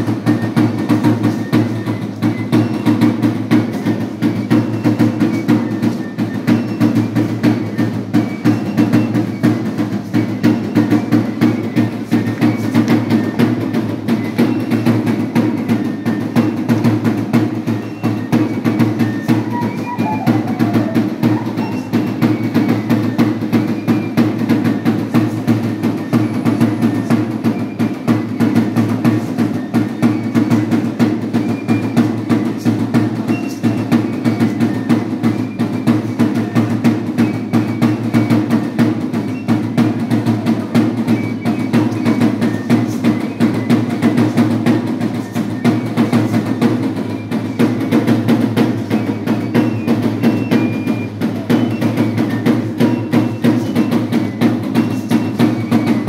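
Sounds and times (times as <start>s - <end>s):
hand drum beating: 0.0s - 56.0s.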